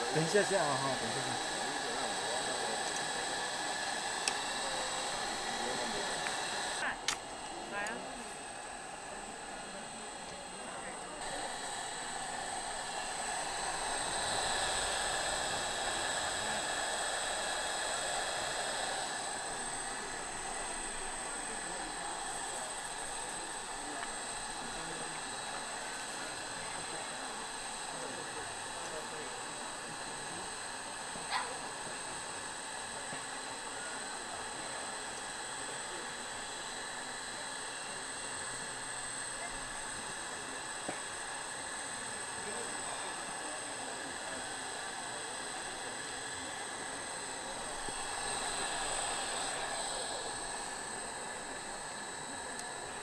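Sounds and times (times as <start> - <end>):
steady hissing noise: 0.0 - 30.6, 32.6 - 53.0.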